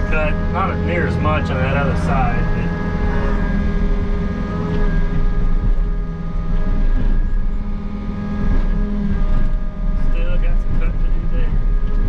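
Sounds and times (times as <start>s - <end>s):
excavator engine rumble: 0.0s - 12.0s
hydraulic whine: 0.0s - 12.0s.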